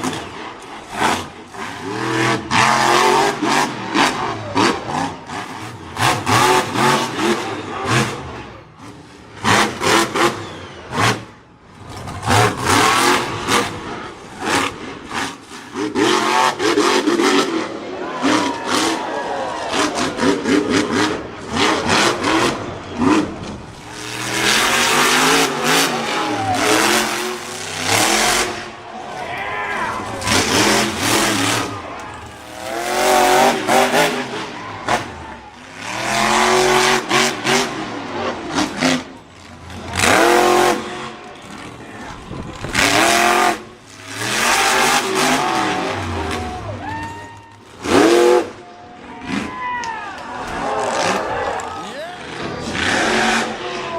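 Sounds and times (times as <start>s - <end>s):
truck engine revving: 0.0s - 46.8s, 47.6s - 49.5s, 50.4s - 53.9s.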